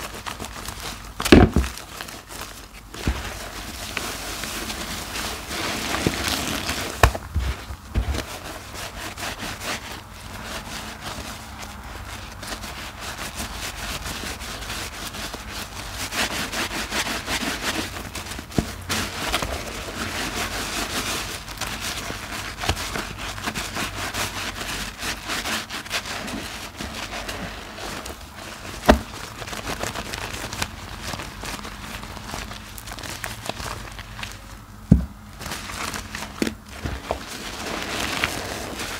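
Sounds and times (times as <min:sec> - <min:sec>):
sponge squelching in soapy water: 0:00.0 - 0:34.6, 0:35.4 - 0:38.9.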